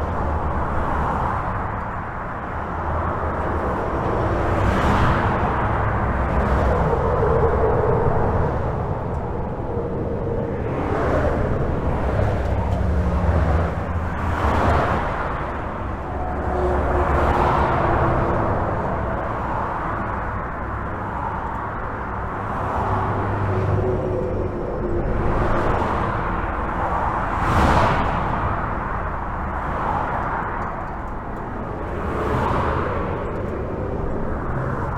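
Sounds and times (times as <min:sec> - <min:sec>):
highway traffic rumble: 0:00.0 - 0:34.9.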